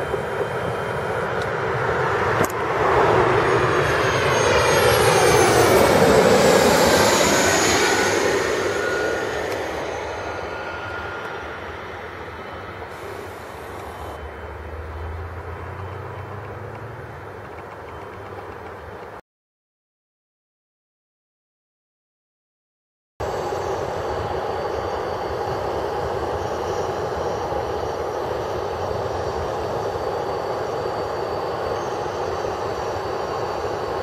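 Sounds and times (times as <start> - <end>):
jet turbofan whine passing: 0.0 - 18.9, 23.2 - 34.0.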